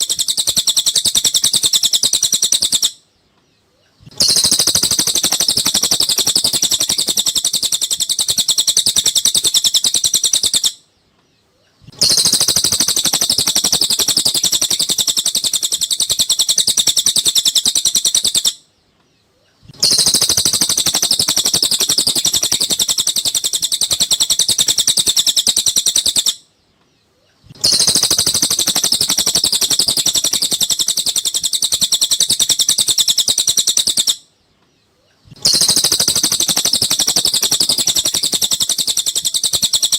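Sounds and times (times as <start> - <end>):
high-pitched bird chirping: 0.0 - 39.9.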